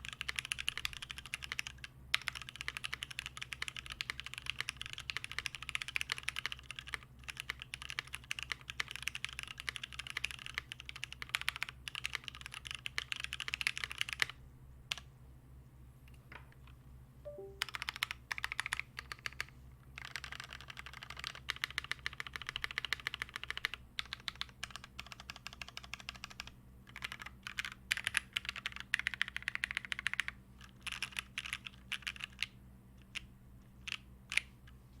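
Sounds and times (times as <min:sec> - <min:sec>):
mechanical keyboard typing: 0:00.0 - 0:15.0, 0:17.3 - 0:34.5.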